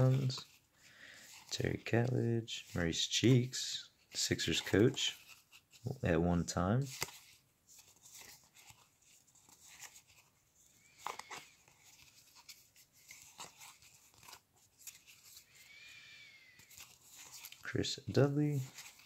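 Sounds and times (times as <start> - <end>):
trading cards rustling and clicking: 0.0 - 19.0.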